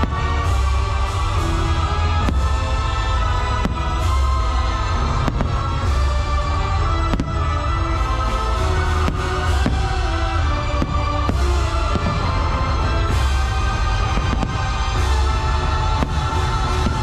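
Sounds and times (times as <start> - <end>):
firework bangs: 0.0 - 17.0
music with heavy bass pulse: 0.0 - 17.0.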